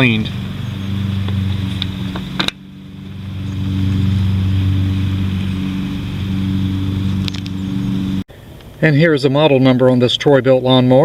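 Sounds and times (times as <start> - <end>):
low mechanical hum: 0.0 - 8.8.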